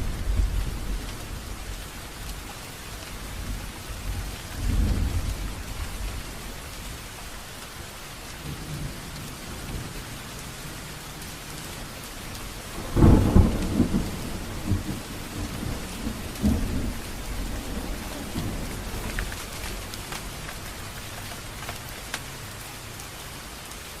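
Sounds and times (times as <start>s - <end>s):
thunder rumbling: 0.0s - 2.5s, 3.1s - 7.0s, 8.4s - 21.8s
steady rain falling: 0.0s - 24.0s.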